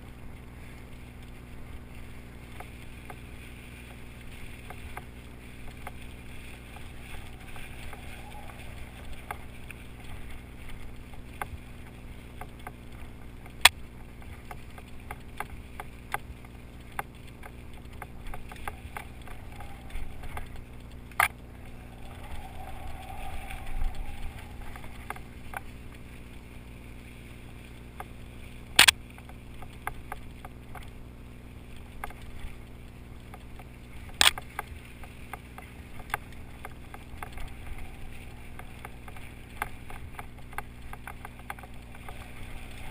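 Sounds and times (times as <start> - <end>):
mountain bike on rough trail: 0.0 - 42.9
small clicks and rattles: 0.0 - 42.9.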